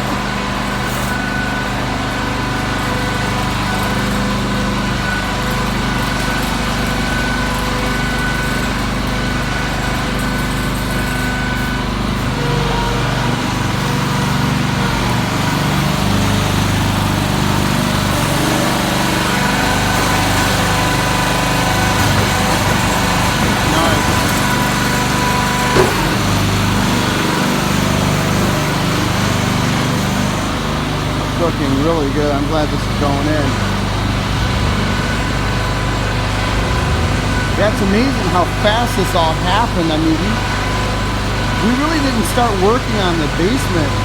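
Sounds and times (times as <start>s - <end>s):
small gasoline engines running: 0.0s - 44.0s.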